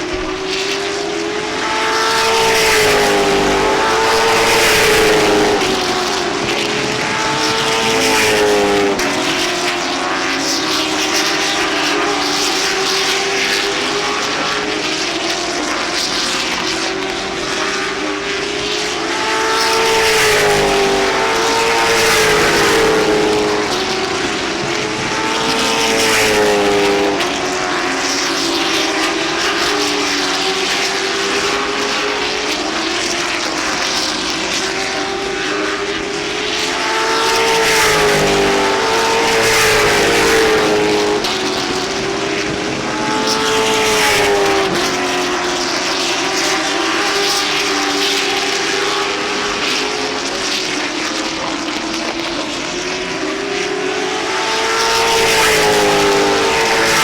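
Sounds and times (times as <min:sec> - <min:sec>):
race car engines: 0:00.0 - 0:57.0.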